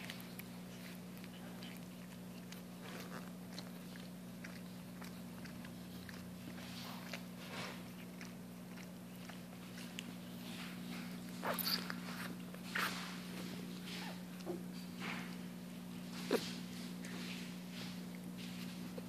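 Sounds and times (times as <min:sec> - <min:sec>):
puppies wet smacking sounds: 0:00.0 - 0:19.0
steady low hum: 0:00.0 - 0:19.0.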